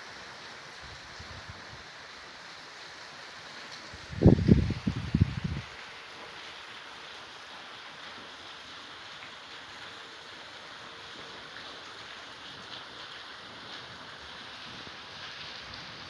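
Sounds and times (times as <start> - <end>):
hiss of rainwater: 0.0 - 16.0.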